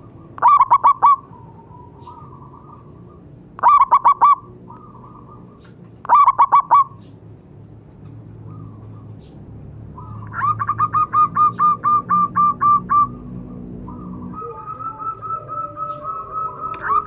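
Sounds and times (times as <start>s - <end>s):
dove cooing: 0.0s - 7.0s, 10.0s - 17.0s.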